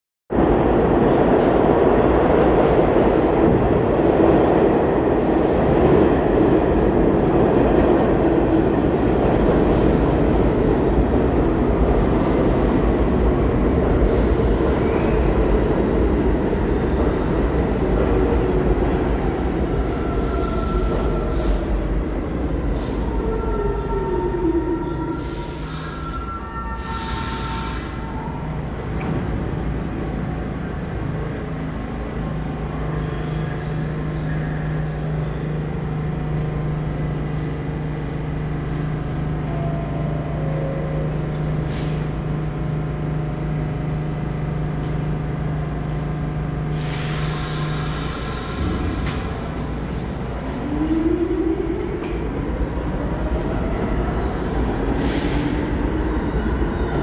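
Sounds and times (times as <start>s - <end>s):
steady train hum: 0.3s - 57.0s
train wheels rumbling on rail: 0.4s - 57.0s.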